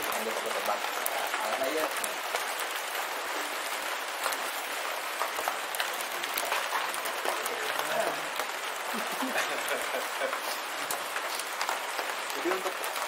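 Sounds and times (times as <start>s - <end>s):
rain on a corrugated roof: 0.0s - 13.0s.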